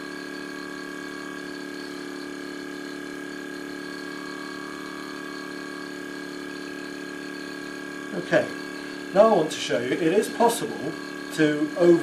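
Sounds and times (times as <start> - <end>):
air pump humming and whining: 0.0 - 12.0.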